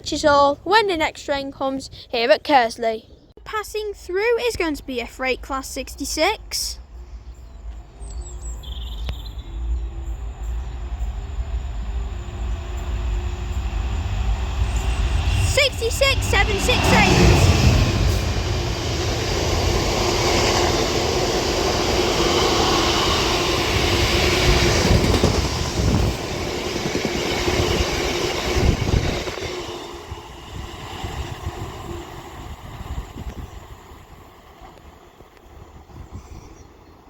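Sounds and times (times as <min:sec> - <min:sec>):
freight train passing: 0:04.3 - 0:37.0.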